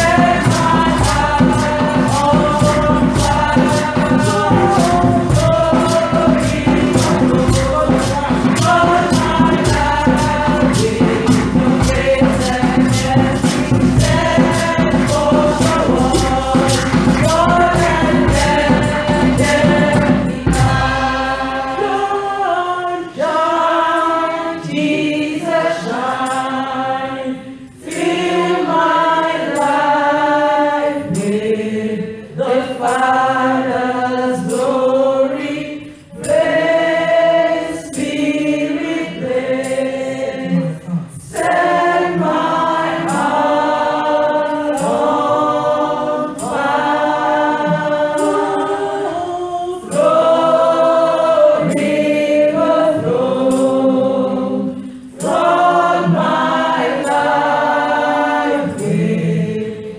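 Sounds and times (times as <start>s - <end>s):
bass and percussion backing: 0.0s - 22.3s, 31.0s - 59.7s
gospel choir singing: 0.0s - 59.9s.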